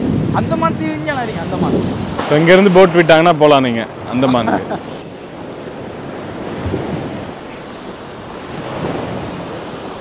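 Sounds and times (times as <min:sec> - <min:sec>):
wind noise on microphone: 0:00.0 - 0:04.0, 0:04.6 - 0:10.0
sea waves breaking on beach: 0:00.0 - 0:10.0.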